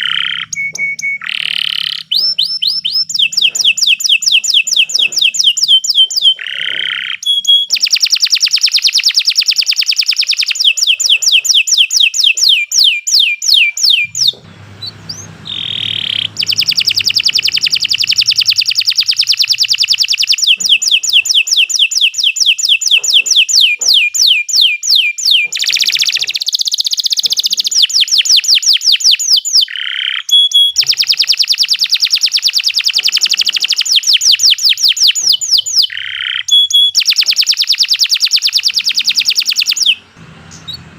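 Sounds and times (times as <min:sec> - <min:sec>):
canary held whistle: 0:00.0 - 0:14.4, 0:15.1 - 0:40.1
canary singing trills: 0:00.0 - 0:40.9.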